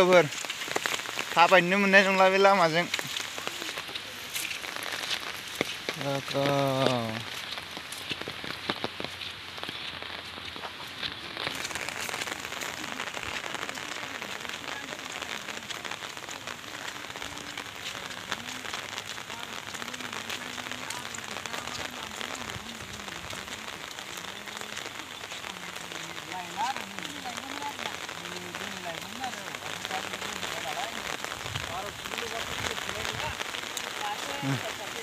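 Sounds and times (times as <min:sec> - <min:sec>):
rain falling on leaves: 0:00.0 - 0:35.0.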